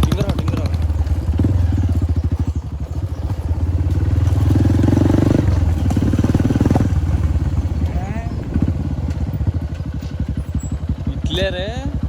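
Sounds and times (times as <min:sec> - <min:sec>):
motorcycle engine putter: 0:00.0 - 0:11.6.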